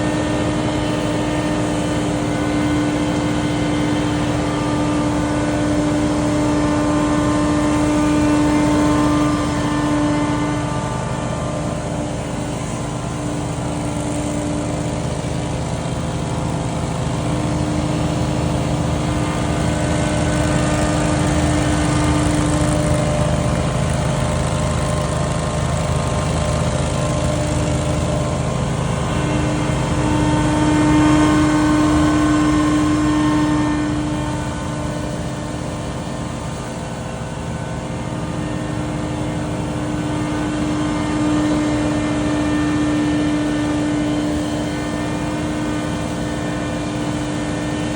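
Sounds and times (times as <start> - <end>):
debris blower engine droning: 0.0 - 47.9.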